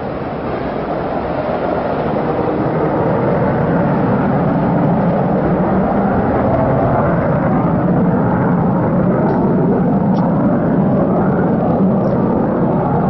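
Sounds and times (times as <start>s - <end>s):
distant jet engine roar: 0.0s - 13.0s.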